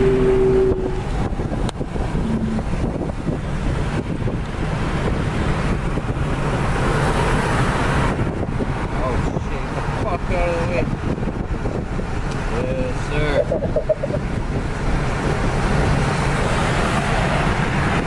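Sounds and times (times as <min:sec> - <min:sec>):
car engine drone: 0:00.0 - 0:18.0
road and wind noise: 0:00.0 - 0:18.0.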